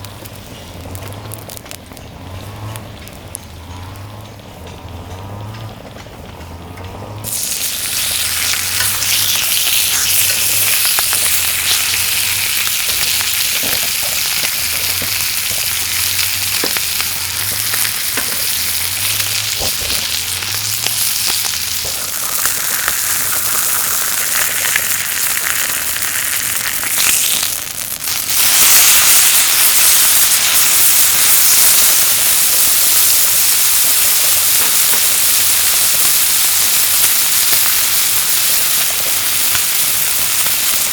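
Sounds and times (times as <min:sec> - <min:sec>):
meat sizzling: 0:00.0 - 0:04.1, 0:07.2 - 0:40.9.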